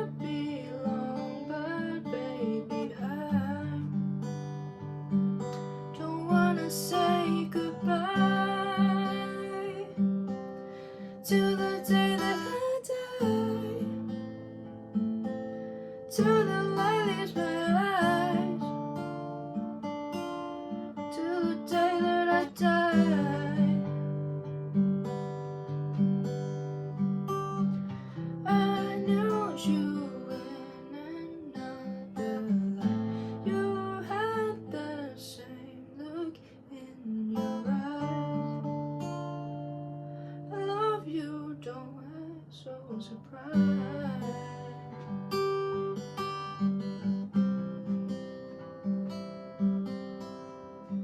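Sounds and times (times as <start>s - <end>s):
acoustic guitar chords: 0.0s - 51.0s.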